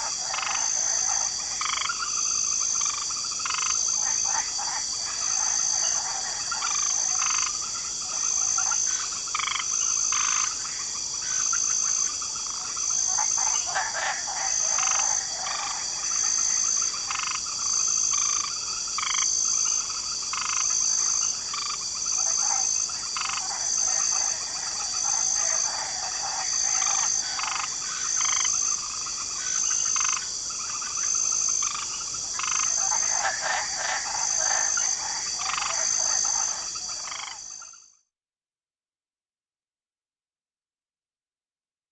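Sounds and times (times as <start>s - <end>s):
crickets droning: 0.0s - 37.9s
frogs croaking: 0.0s - 37.9s.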